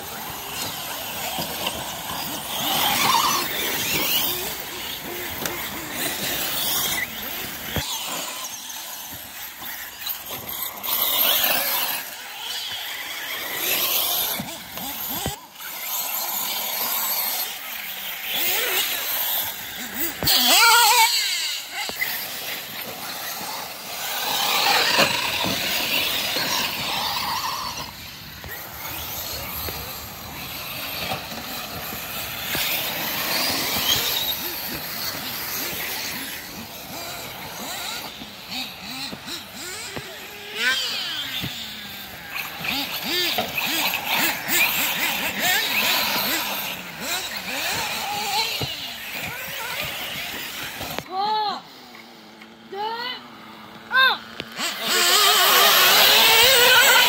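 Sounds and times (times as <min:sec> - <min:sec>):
rc car motor whine: 0:00.0 - 0:57.0.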